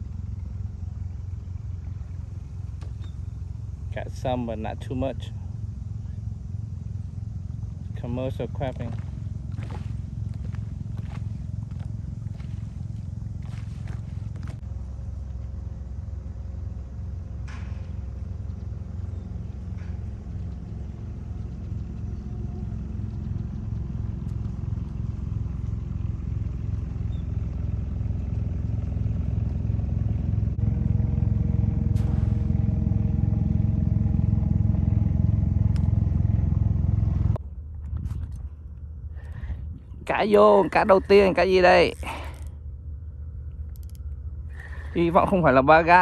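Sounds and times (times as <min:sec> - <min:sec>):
outboard motor humming: 0:00.0 - 0:46.0.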